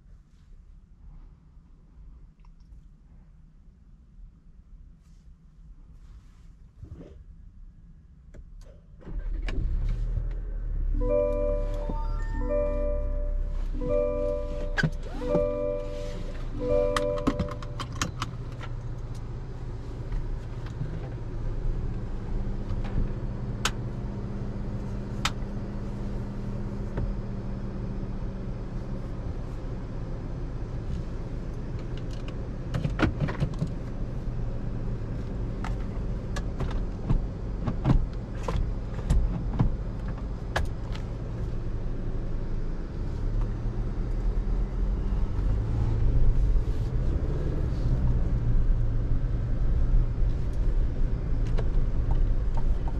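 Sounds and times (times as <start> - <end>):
road and tyre noise: 0.0 - 52.9
car engine humming: 9.0 - 52.9.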